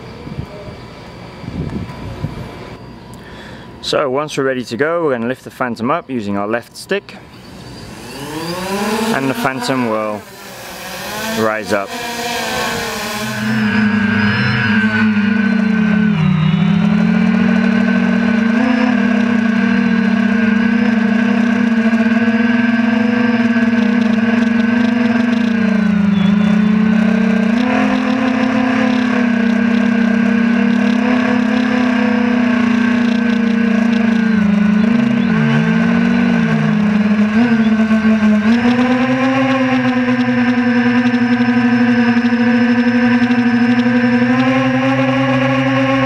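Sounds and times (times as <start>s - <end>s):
drone propellers humming: 0.0s - 4.2s, 6.9s - 46.0s.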